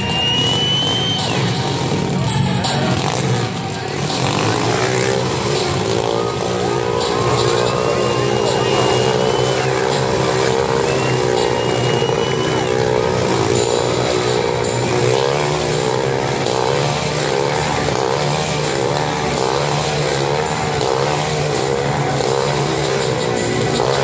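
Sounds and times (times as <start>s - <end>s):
motorcycle engines circling: 0.0s - 24.0s.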